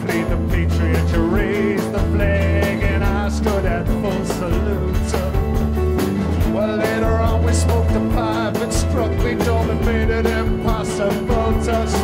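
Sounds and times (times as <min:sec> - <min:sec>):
man singing: 0:00.0 - 0:05.7, 0:06.4 - 0:12.0
bass: 0:00.0 - 0:12.0
rock band playing live: 0:00.0 - 0:12.0
steady drum beat: 0:00.0 - 0:12.0.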